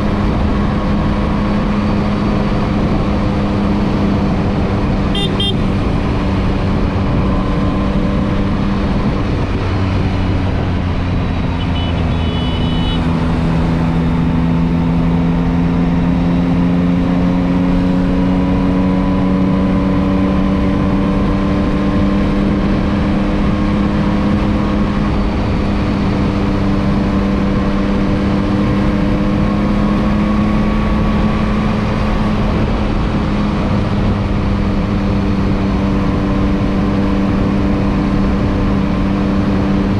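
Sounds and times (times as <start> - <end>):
heavy wind noise: 0.0 - 39.9
motorcycle engine cruising: 0.0 - 39.9.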